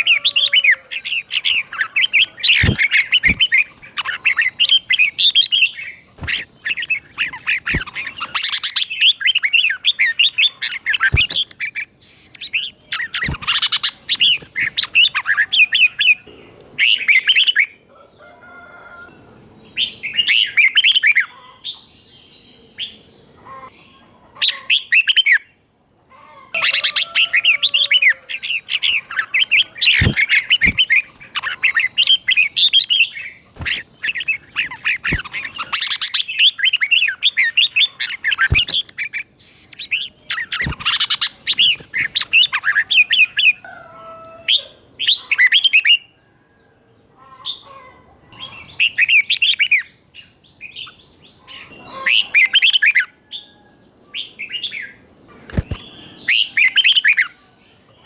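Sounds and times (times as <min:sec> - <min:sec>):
bird singing warbling phrases: 0:00.0 - 0:17.8, 0:26.6 - 0:46.0, 0:47.4 - 0:53.1, 0:54.1 - 0:58.0.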